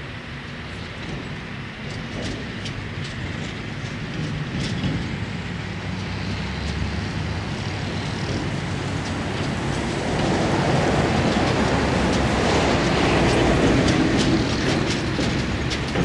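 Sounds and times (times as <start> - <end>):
forage harvester running: 0.0 - 16.0.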